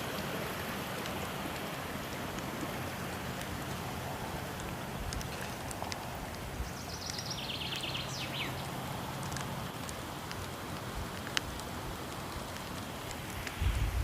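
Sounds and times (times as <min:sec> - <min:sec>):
falling water rushing: 0:00.0 - 0:14.0
wood fire crackling: 0:00.0 - 0:14.0.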